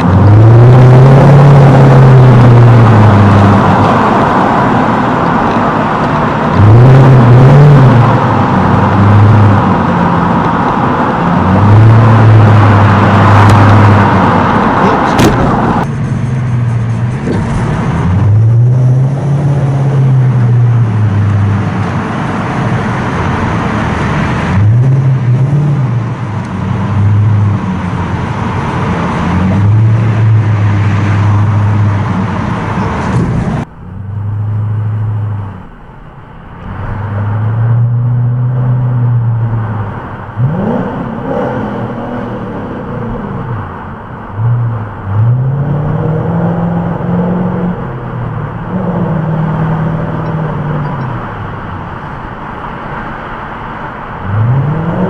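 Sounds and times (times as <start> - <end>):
car exhaust revving in tunnel: 0.0 - 55.0.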